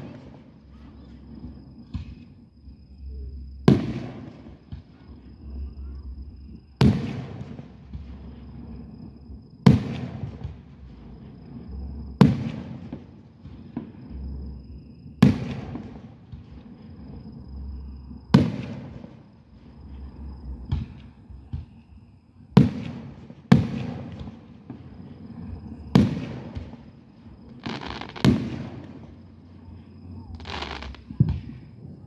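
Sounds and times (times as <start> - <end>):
fireworks booming: 0.0 - 2.4, 3.0 - 32.0
fireworks crackling hiss: 0.0 - 32.0.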